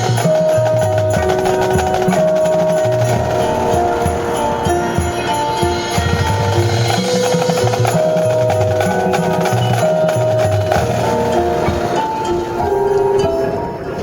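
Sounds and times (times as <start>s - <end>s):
sharp percussion strikes: 0.0s - 13.9s
marching band playing: 0.1s - 13.8s.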